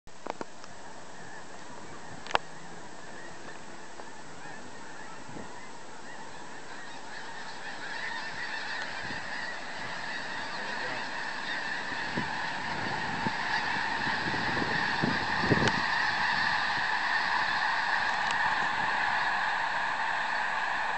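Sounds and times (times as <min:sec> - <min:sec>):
geese honking: 0:00.7 - 0:20.9.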